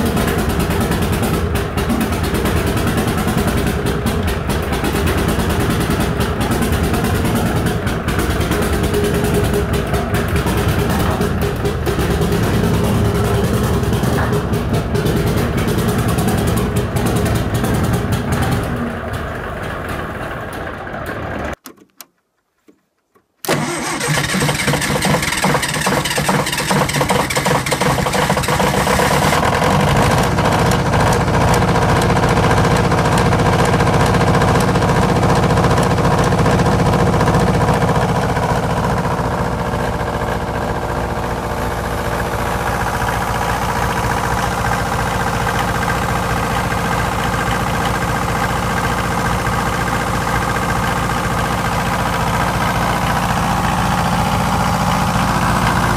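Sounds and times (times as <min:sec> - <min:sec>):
diesel generator engine running: 0:00.0 - 0:21.6, 0:23.5 - 0:55.9.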